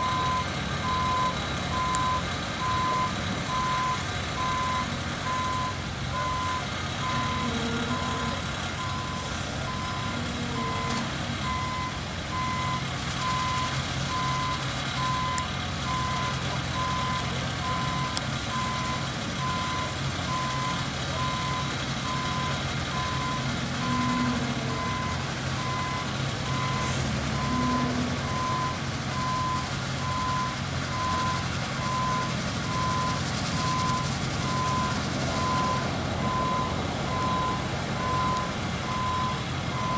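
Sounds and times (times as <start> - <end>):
diesel engine running: 0.0 - 39.9
truck reversing alarm beeping: 0.0 - 39.9.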